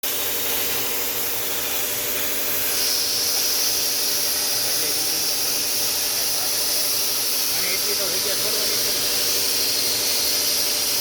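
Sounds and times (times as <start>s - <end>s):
plasma torch hissing: 0.0s - 11.0s.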